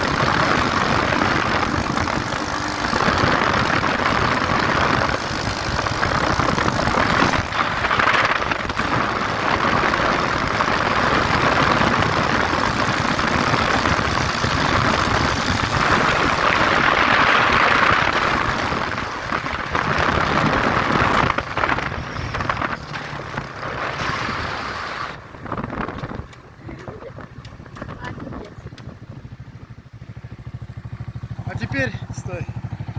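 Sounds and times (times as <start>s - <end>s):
motorcycle engine running: 0.0s - 32.9s
wind rushing on microphone: 0.0s - 32.9s.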